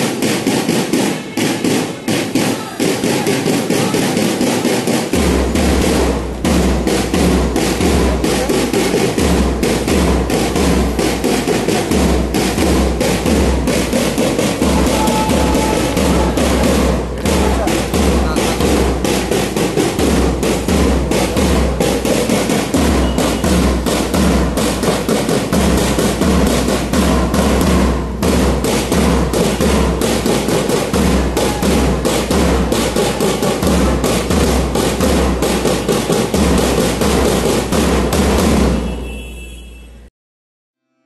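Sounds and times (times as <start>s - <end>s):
marching drums: 0.0s - 39.2s
bass drum thumps: 2.8s - 38.9s.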